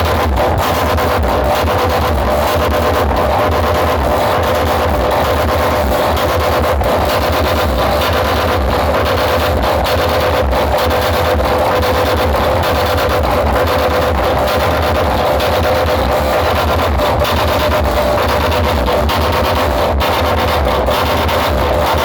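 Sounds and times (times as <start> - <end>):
distorted loud music: 0.0 - 22.0
pounding bass: 0.0 - 22.0.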